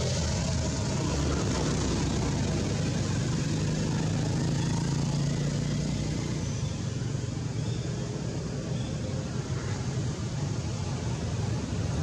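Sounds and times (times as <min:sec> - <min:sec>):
engine drone with hiss: 0:00.0 - 0:12.0.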